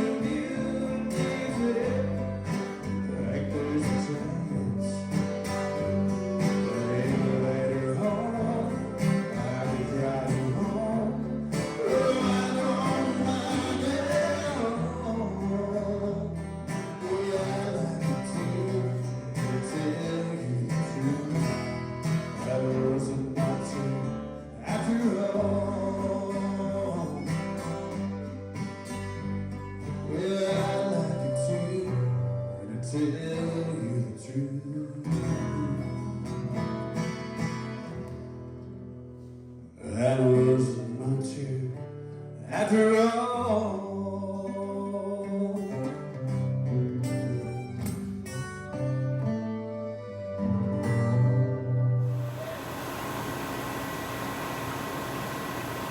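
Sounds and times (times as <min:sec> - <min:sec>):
country music with singing: 0:00.0 - 0:55.9.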